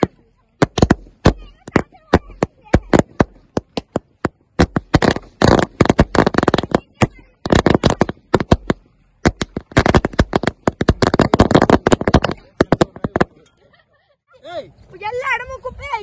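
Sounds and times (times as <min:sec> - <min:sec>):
firecrackers popping: 0:00.0 - 0:13.5.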